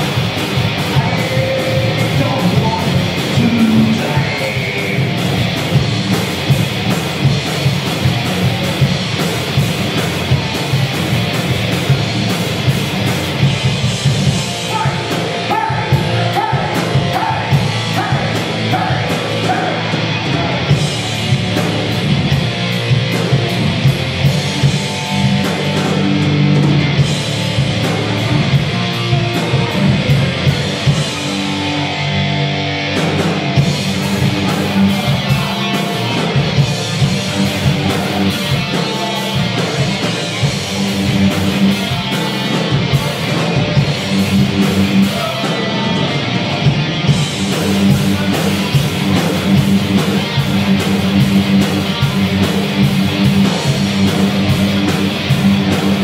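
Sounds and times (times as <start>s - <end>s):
bass guitar: 0.0s - 56.0s
drum kit: 0.0s - 56.0s
electric guitars: 0.0s - 56.0s.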